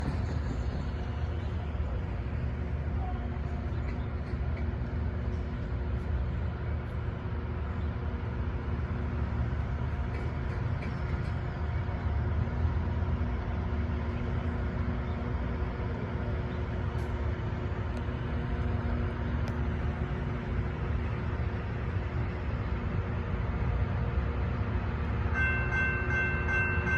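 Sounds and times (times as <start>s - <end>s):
diesel engine drone: 0.0s - 26.9s
machinery hum: 0.0s - 26.9s.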